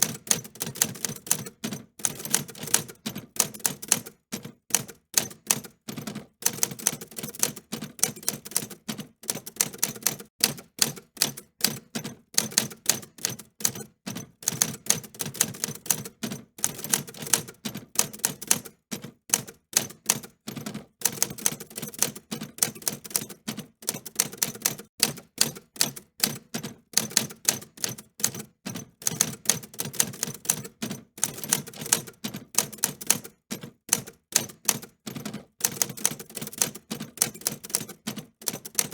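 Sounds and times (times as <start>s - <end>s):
typewriter keys clicking: 0.0s - 38.9s.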